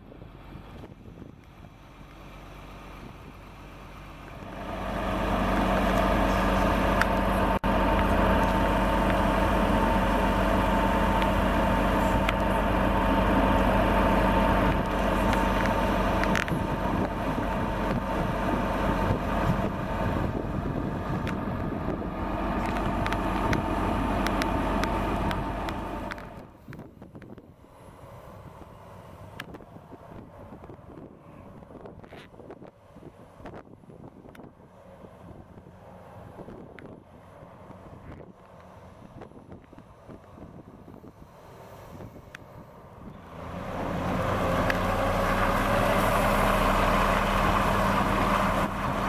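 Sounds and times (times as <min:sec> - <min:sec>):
excavator diesel engine running: 0:00.1 - 0:31.9, 0:32.8 - 0:49.0.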